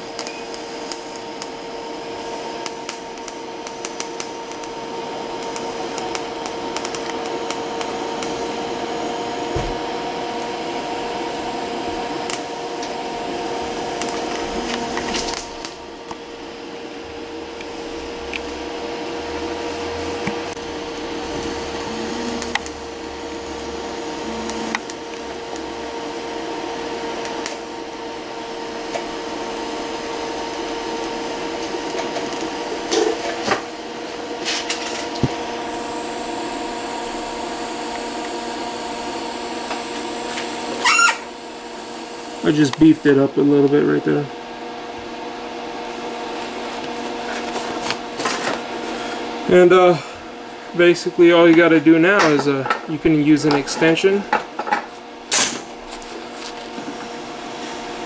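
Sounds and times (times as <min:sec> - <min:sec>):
welding arc hissing and humming: 0:00.0 - 0:58.0.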